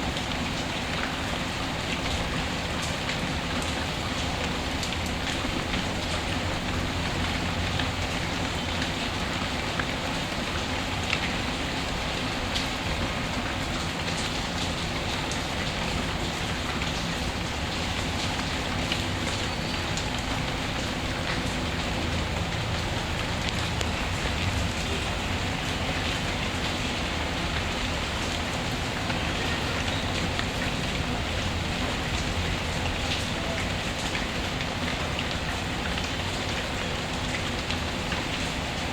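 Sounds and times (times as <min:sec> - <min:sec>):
raindrops ticking: 0:00.0 - 0:38.9
steady rain hiss: 0:00.0 - 0:38.9.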